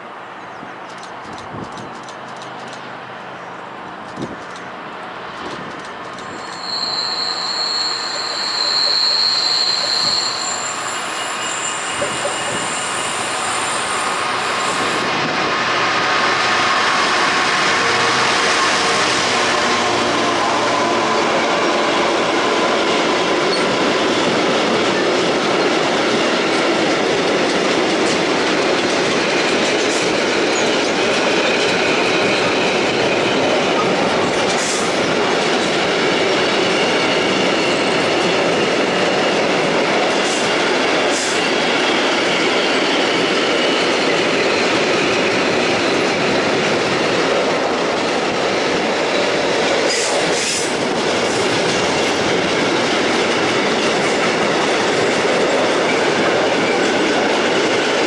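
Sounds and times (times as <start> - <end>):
diesel locomotive engine: 0.0 - 58.0
train wagons rolling on rails: 0.5 - 58.0.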